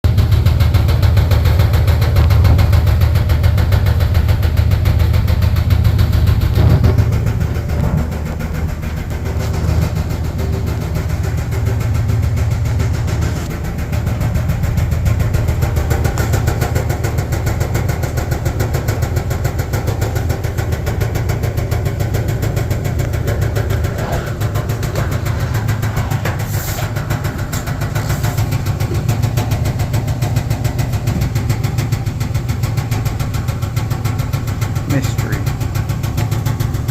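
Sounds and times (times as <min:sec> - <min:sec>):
clothes dryer droning and rattling: 0:00.0 - 0:36.9.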